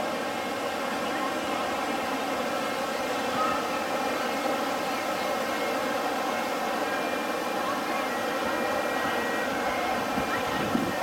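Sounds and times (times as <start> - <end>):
crowd talking: 0.0 - 11.0
fountain water splashing: 0.0 - 11.0.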